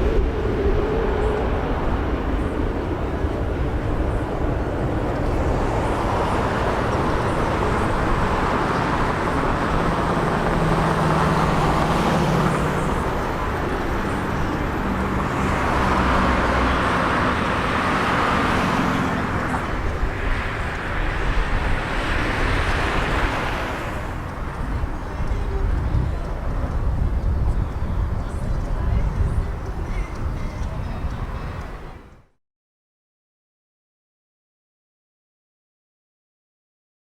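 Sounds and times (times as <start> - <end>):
strong wind on microphone: 0.0 - 32.3.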